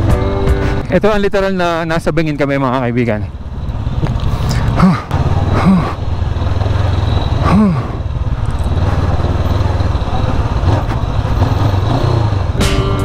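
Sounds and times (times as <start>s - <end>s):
motorcycle engine running: 2.5s - 13.0s.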